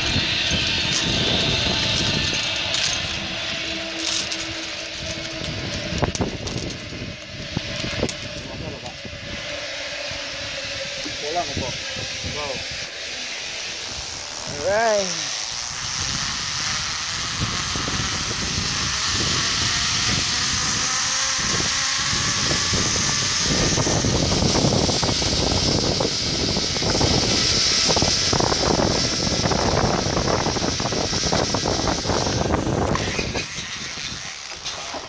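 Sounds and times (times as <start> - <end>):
wind buffeting on microphone: 0.0 - 12.9, 15.6 - 35.0
zip line trolley whine: 0.0 - 35.0.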